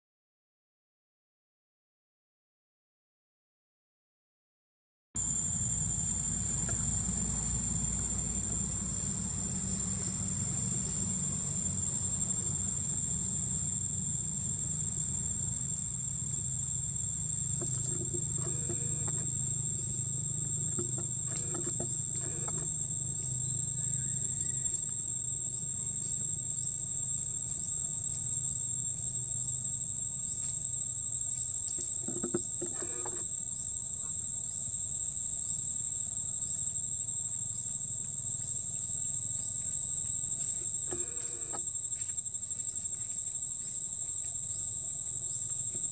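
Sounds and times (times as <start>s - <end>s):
insect chorus drone: 5.2s - 45.9s.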